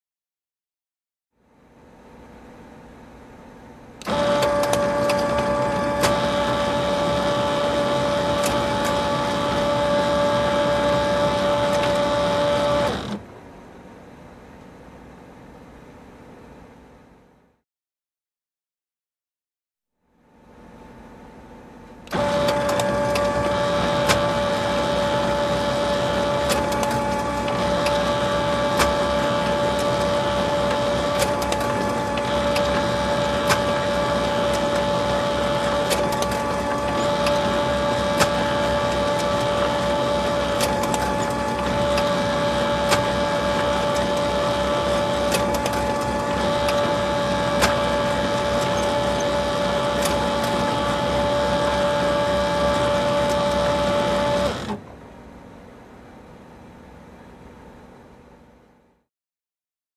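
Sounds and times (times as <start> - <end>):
photocopier humming and whining: 1.6 - 17.3, 20.4 - 58.6.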